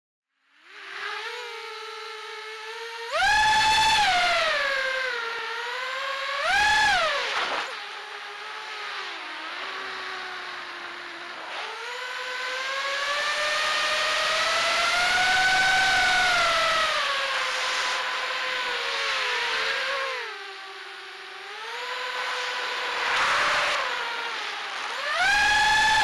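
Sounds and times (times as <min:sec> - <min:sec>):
drone motors whining: 0:00.6 - 0:26.0.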